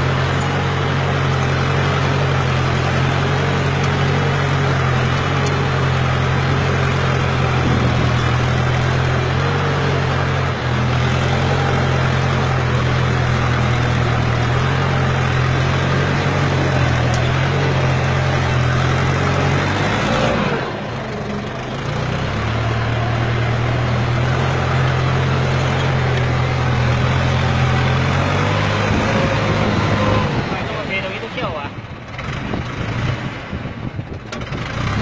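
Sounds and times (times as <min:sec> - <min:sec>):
tractor engine under load: 0:00.0 - 0:35.0.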